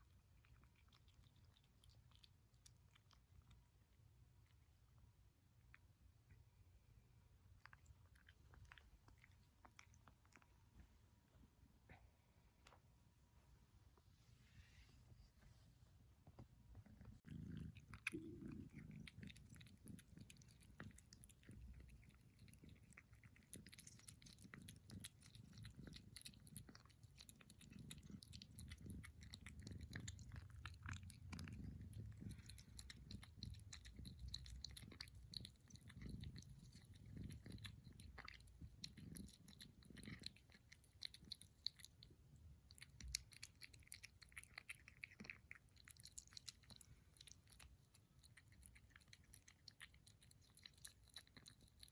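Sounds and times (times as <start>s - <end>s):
kitten chewing: 0.0s - 13.0s, 16.3s - 51.9s.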